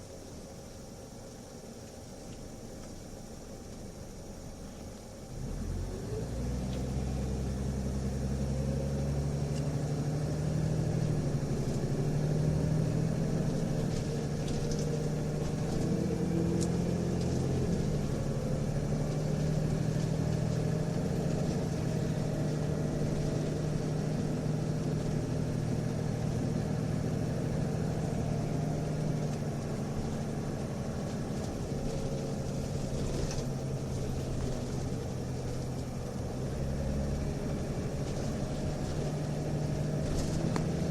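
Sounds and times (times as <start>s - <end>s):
diesel bus engine drone: 0.0s - 40.9s.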